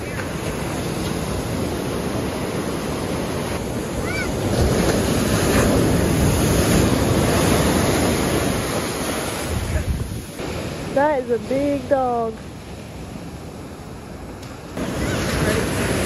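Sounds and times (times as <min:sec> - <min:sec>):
ocean waves crashing: 0:00.0 - 0:16.0.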